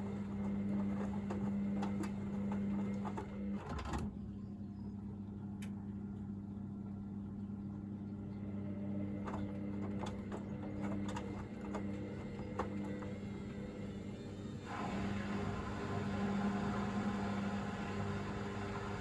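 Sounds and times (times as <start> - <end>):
drain pump humming: 0.0 - 4.4, 5.3 - 19.0.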